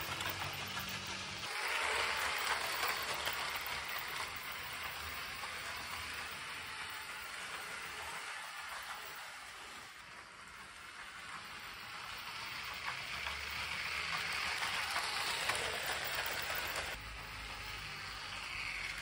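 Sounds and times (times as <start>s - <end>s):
toy train wheels rattling on track: 0.0s - 19.0s.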